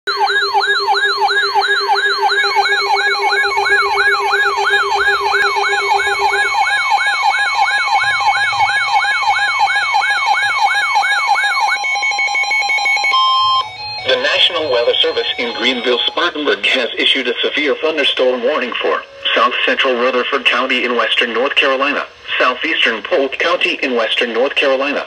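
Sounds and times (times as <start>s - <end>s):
steady tones: 0.1s - 24.6s
weather radio alert alarm: 0.1s - 25.0s.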